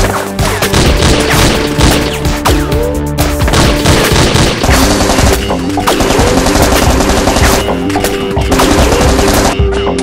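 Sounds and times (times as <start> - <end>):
rapid gunfire sound effects: 0.0 - 9.7
background music: 0.0 - 10.0.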